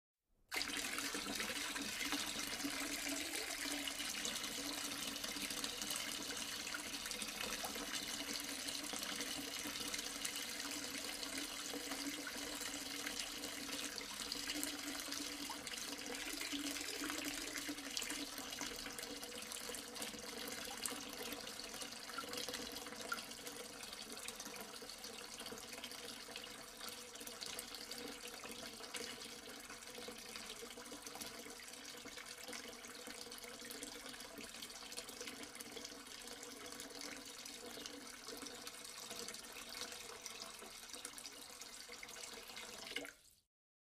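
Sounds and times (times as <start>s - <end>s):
tap water running into sink: 0.5s - 43.2s.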